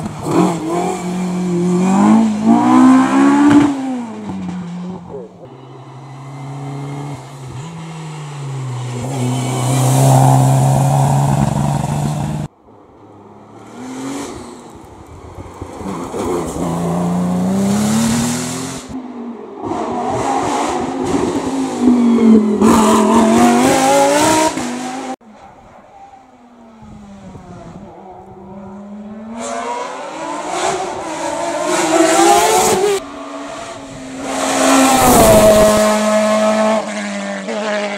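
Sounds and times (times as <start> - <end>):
racing car engines revving: 0.0 - 12.5, 13.4 - 37.9.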